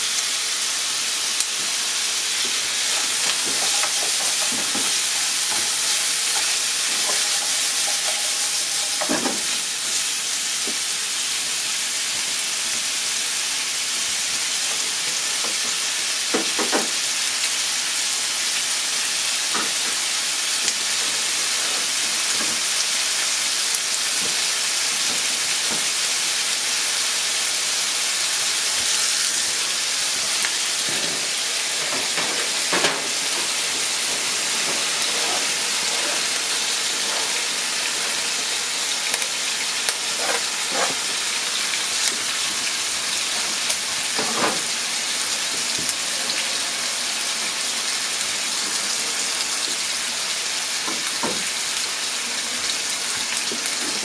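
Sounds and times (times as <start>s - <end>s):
chicken sizzling in a frying pan: 0.0s - 54.0s.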